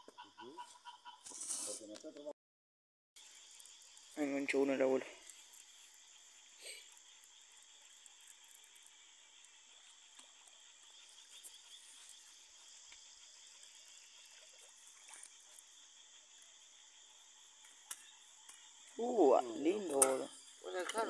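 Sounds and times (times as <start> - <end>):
crickets chirring: 0.0 - 2.3, 3.2 - 21.0.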